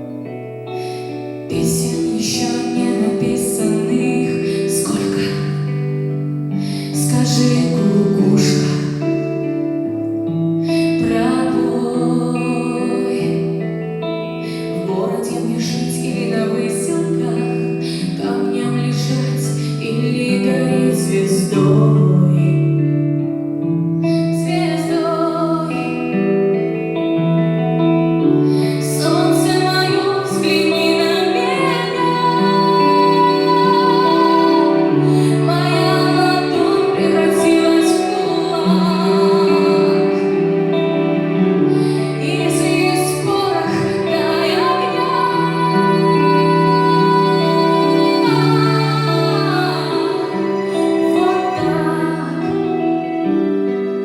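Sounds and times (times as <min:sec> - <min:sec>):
guitar accompaniment: 0:00.0 - 0:54.0
woman singing: 0:00.0 - 0:54.0.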